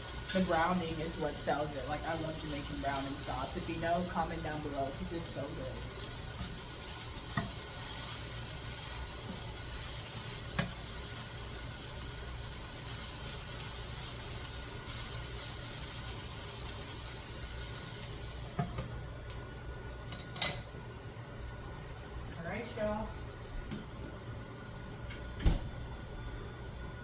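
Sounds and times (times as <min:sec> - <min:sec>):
chicken sizzling in frying: 0:00.0 - 0:22.9.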